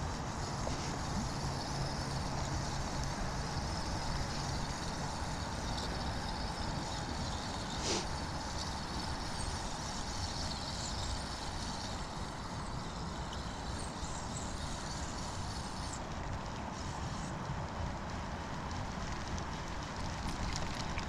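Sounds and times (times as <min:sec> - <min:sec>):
even hiss: 0:00.0 - 0:17.5.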